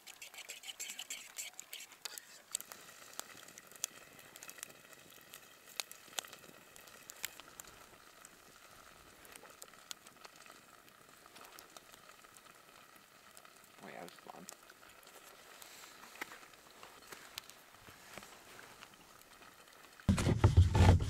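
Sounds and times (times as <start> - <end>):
campfire crackling and popping: 0.0 - 21.0
faint steady hiss: 0.0 - 21.0.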